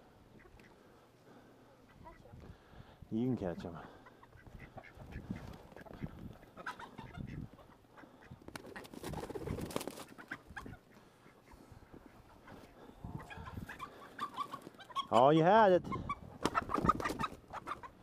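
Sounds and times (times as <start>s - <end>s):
chickens squawking and clucking: 0.0s - 18.0s.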